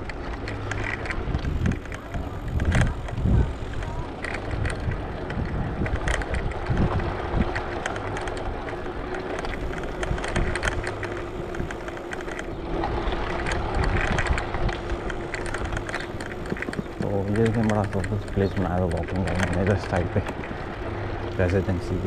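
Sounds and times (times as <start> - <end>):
bicycle rolling over paving stones: 0.0 - 22.0
small rattling clicks: 0.0 - 22.0.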